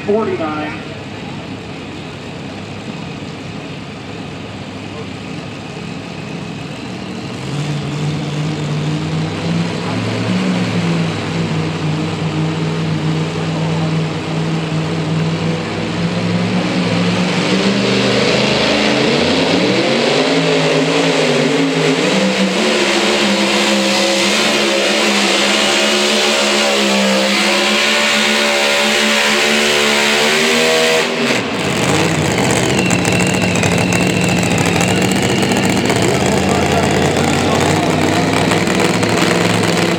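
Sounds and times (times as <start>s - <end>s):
pulling truck engine revving: 0.0s - 39.9s.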